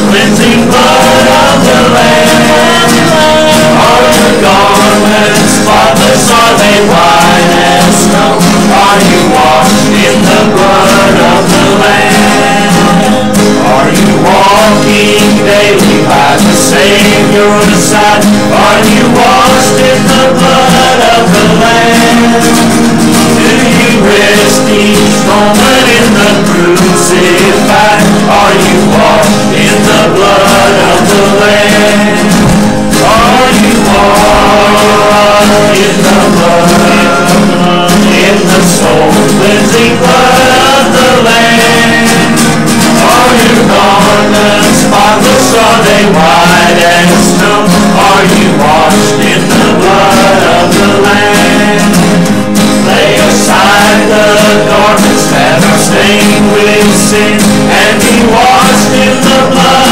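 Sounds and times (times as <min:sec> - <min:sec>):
men singing a hymn: 0:00.0 - 0:59.9
strummed acoustic guitars: 0:00.0 - 0:59.9.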